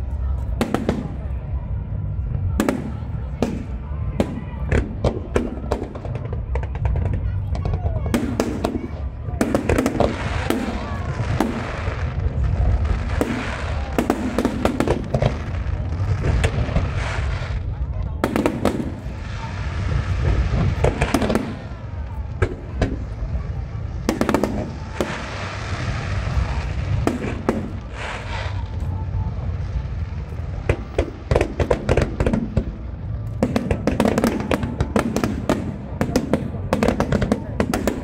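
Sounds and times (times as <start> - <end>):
fireworks crackling: 0.0 - 38.0
low rumble: 0.0 - 38.0.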